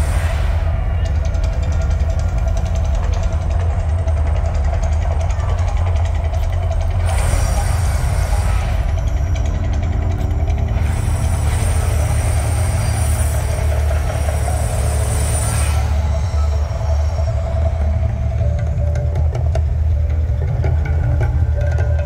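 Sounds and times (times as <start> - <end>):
deep steady rumble: 0.0 - 22.0.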